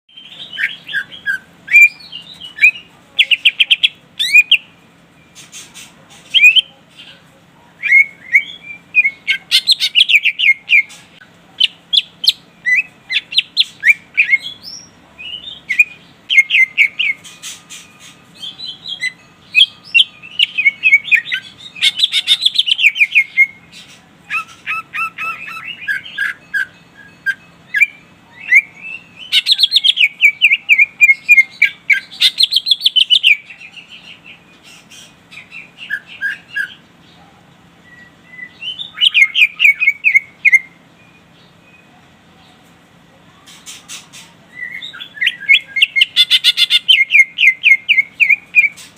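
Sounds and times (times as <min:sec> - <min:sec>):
bird singing chirps and trills: 0:00.1 - 0:42.7, 0:43.3 - 0:48.9.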